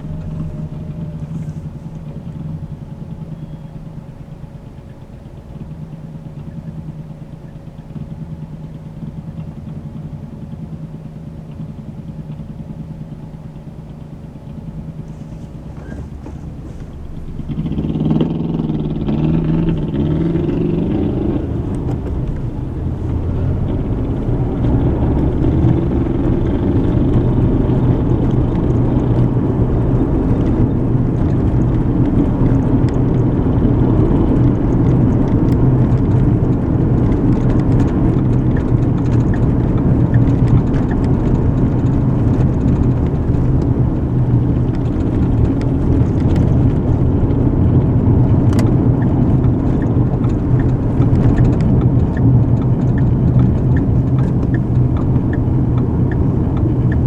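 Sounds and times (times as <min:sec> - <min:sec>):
car engine hum: 0:00.0 - 0:57.0
tyre road noise: 0:00.0 - 0:57.0.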